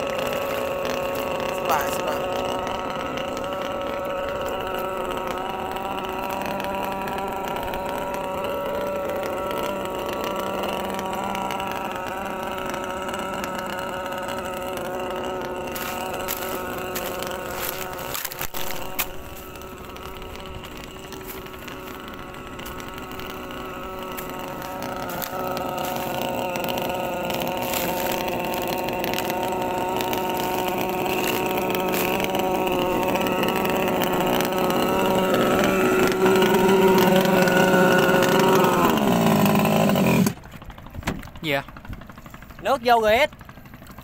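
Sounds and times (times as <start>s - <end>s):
model boat motor whine: 0.0s - 44.0s.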